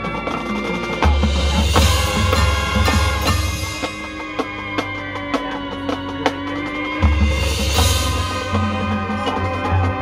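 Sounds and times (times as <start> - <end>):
percussion strokes: 0.0 - 10.0.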